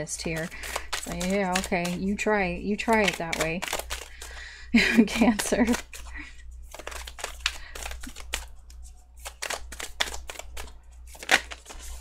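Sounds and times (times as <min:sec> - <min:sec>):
cards being shuffled: 0:00.2 - 0:04.4, 0:05.1 - 0:12.0.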